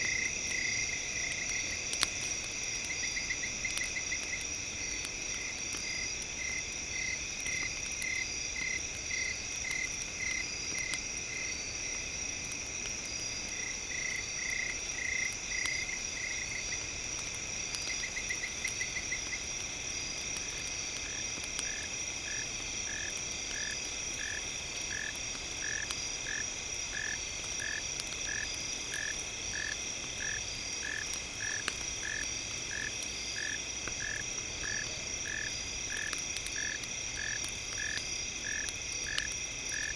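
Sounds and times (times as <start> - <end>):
insects trilling: 0.0 - 39.9
faint crackling clicks: 1.3 - 11.1, 16.6 - 26.4, 27.0 - 39.9.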